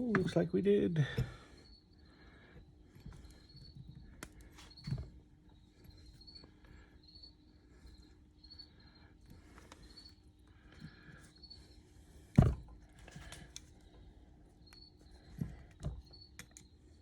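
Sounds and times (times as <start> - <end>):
insect chirping: 0.0 - 11.8, 13.8 - 17.0
low steady hum: 0.0 - 17.0.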